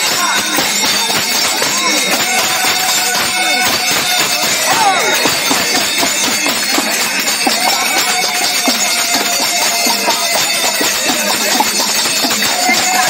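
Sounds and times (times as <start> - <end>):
people clapping in time: 0.0 - 13.0.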